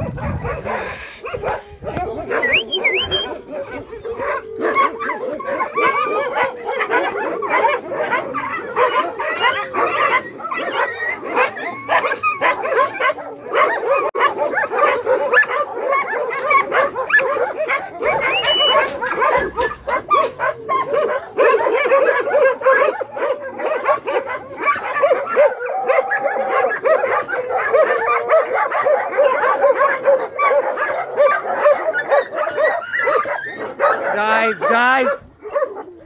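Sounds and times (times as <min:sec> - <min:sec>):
many dogs barking: 0:00.0 - 0:36.0.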